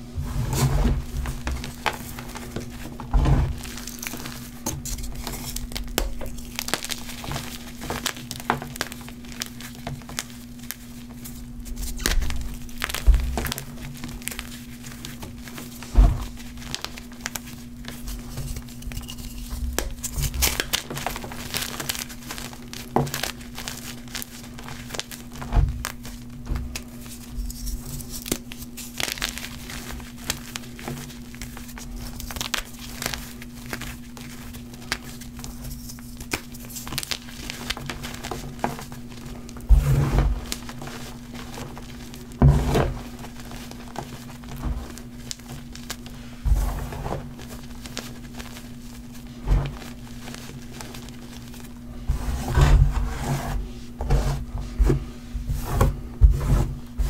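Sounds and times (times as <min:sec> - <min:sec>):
steady low hum: 0:00.0 - 0:57.0
chalk crunching and crackling: 0:00.3 - 0:57.0.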